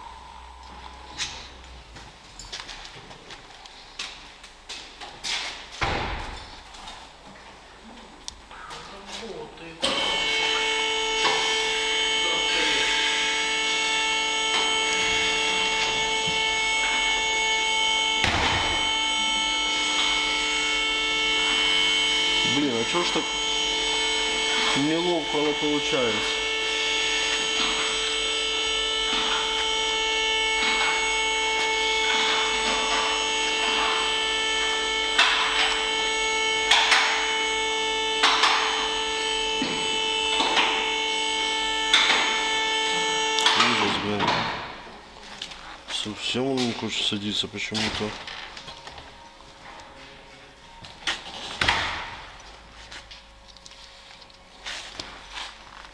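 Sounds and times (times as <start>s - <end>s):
machine humming: 0.0s - 3.0s, 5.8s - 55.9s.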